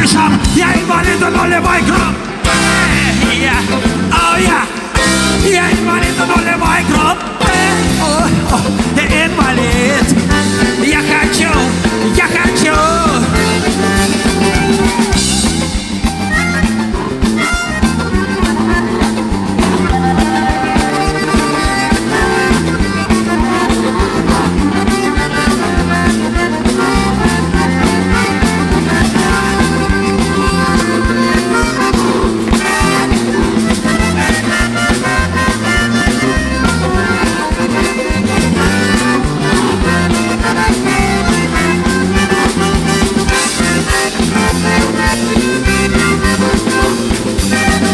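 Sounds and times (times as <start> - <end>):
bass guitar: 0.0 - 47.9
button accordion melody: 0.0 - 47.9
electric guitar: 0.0 - 47.9
steady drum beat: 0.0 - 47.9.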